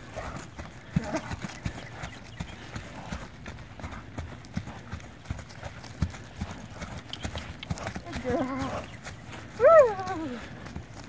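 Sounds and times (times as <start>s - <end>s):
horse hoofbeats on grass: 0.0s - 11.0s.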